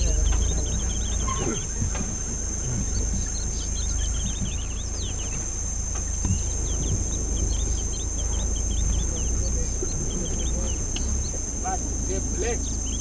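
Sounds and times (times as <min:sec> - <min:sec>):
birds chirping: 0:00.0 - 0:13.0
insect drone: 0:00.0 - 0:13.0
low rumble: 0:00.0 - 0:13.0.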